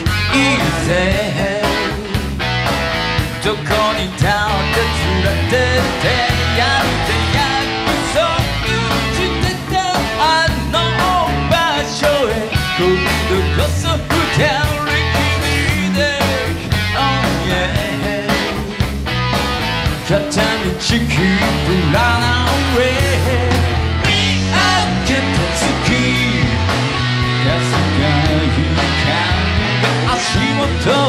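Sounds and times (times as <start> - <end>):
man singing: 0.0 - 2.2, 3.3 - 18.8, 20.0 - 31.0
live rock band playing: 0.0 - 31.0.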